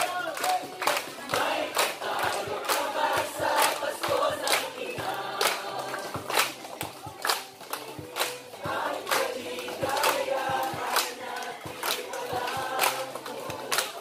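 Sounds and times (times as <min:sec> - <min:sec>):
crowd singing together: 0:00.0 - 0:06.8, 0:08.2 - 0:14.0
hand claps in time: 0:00.0 - 0:14.0.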